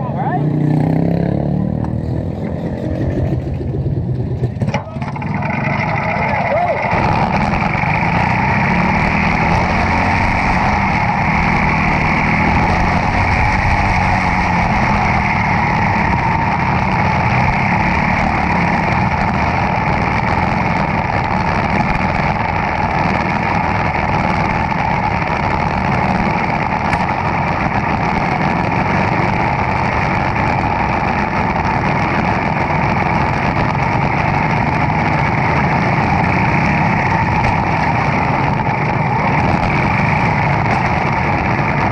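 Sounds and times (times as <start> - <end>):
car engine running loudly: 0.0 - 41.9.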